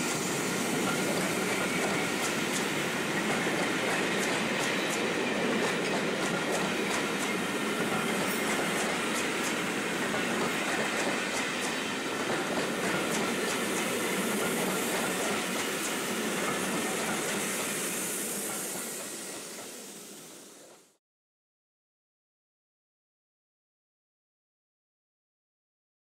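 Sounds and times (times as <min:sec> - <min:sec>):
train coaches rumbling past: 0:00.0 - 0:21.0.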